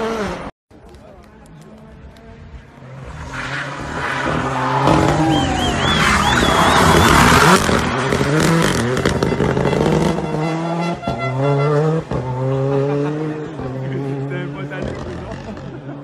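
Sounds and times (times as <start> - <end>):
car engine revving: 1.6 - 16.0.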